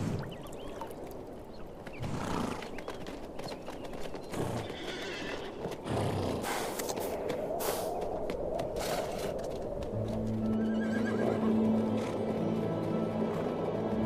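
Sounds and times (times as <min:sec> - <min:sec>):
horses calling: 0:00.0 - 0:08.0, 0:08.7 - 0:13.7
hooves clopping on stony ground: 0:00.1 - 0:14.0.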